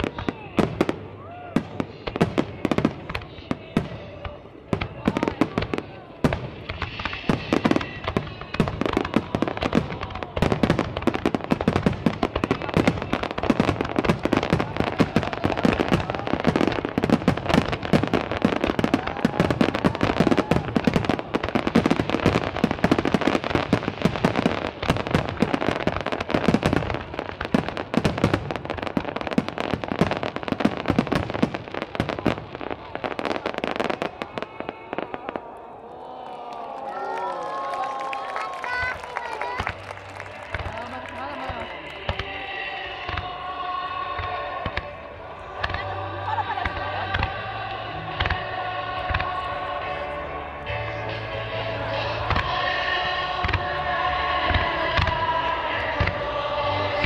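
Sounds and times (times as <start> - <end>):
fireworks bursting: 0.0 - 35.7, 36.8 - 50.0, 51.6 - 57.0.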